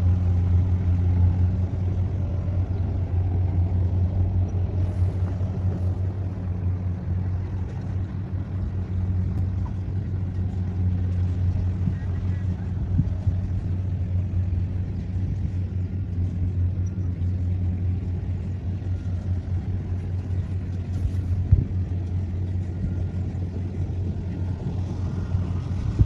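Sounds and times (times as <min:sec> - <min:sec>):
heavy machinery engine droning: 0:00.0 - 0:26.0.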